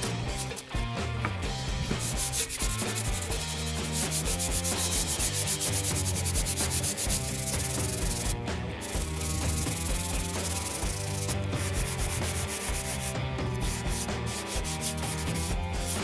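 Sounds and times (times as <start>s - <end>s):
hand sanding wood: 0.0s - 0.7s, 1.7s - 16.0s.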